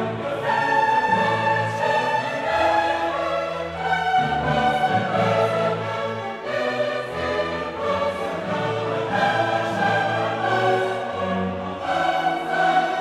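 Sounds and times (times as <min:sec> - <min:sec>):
orchestral music sustained notes: 0:00.0 - 0:13.0.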